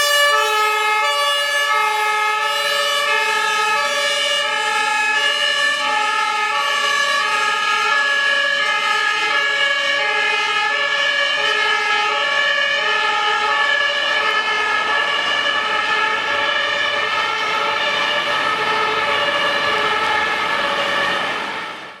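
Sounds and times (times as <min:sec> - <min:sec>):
two-tone fire engine horn: 0:00.0 - 0:21.6.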